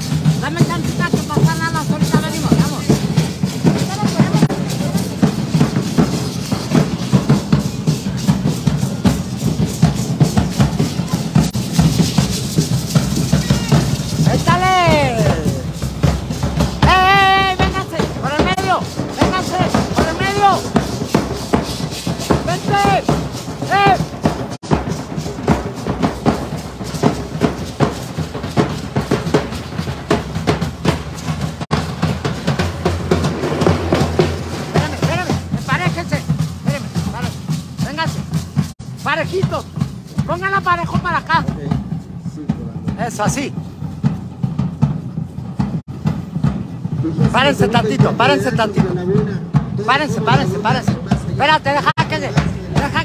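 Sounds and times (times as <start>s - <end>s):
bass drum beating: 0.0s - 53.0s
snare drum beating: 0.0s - 53.0s.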